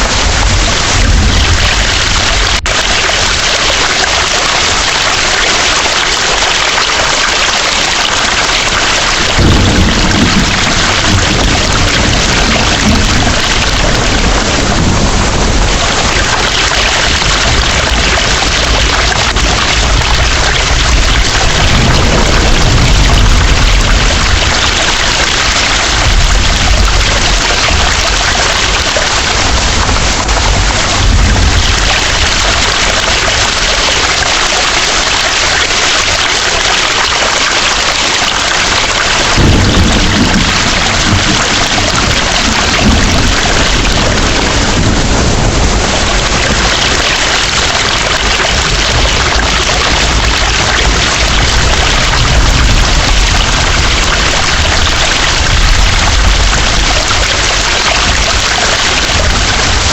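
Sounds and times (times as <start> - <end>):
low thunder rumbling: 0.0 - 5.7, 6.3 - 34.7, 38.0 - 59.9
heavy rain pouring: 0.0 - 59.9.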